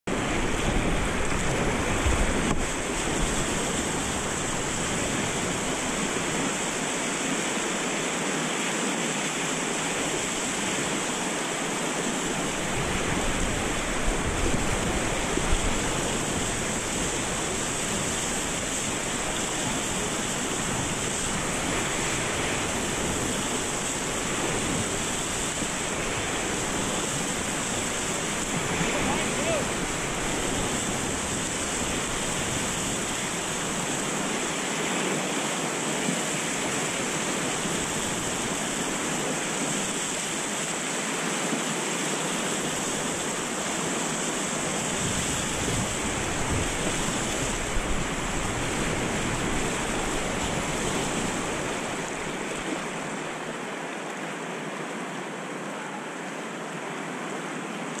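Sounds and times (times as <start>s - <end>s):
whitewater rapids rushing: 0.1s - 58.0s.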